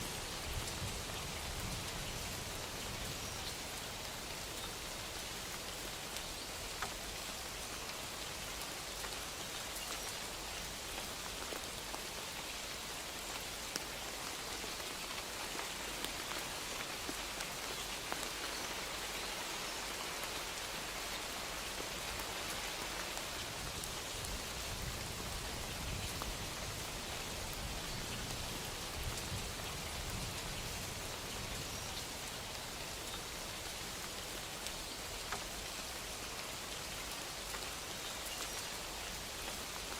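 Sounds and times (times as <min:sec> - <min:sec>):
soft rain patter: 0:00.0 - 0:39.9.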